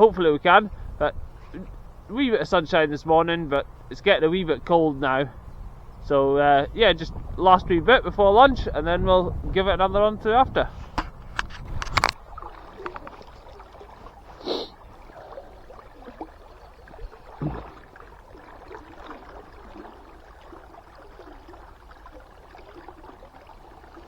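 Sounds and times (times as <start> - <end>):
river current flowing: 0.0 - 24.0.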